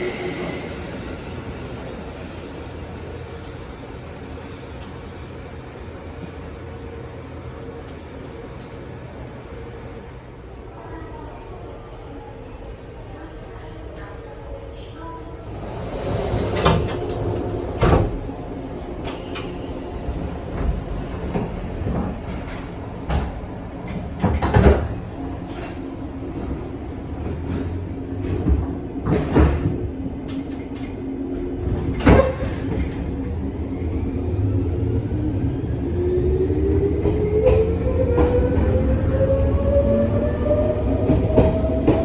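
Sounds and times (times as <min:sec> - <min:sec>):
train low rumble: 0:00.0 - 0:42.0.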